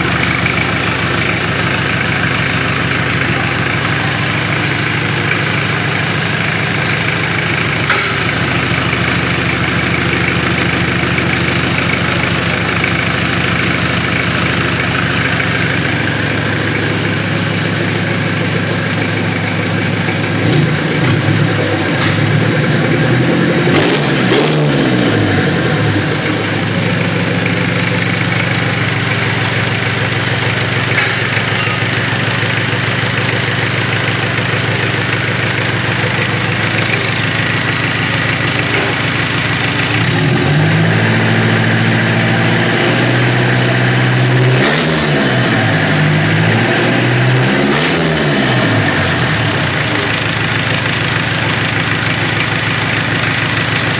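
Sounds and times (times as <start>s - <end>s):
diesel engine idling and revving: 0.0s - 53.9s.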